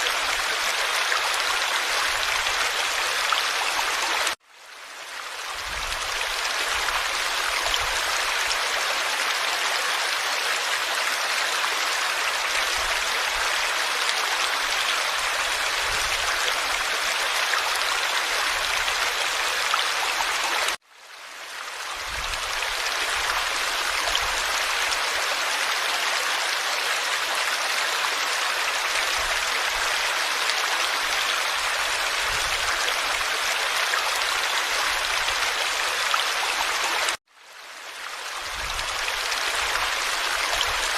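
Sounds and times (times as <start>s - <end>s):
stream babbling over stones: 0.0s - 4.4s, 5.0s - 20.8s, 21.6s - 37.2s, 37.8s - 40.9s.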